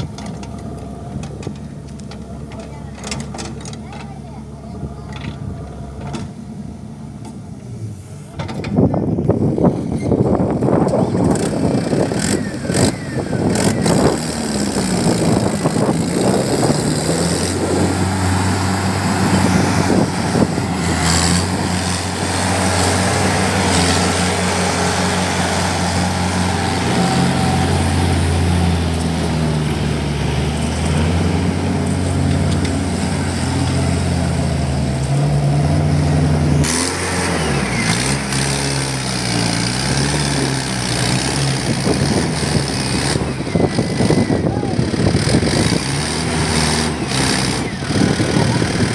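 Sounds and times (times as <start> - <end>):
tractor diesel engine labouring: 0.0 - 48.9.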